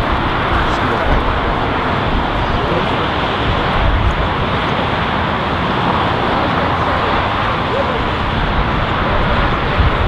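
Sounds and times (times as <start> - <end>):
jet engines passing: 0.0 - 10.0.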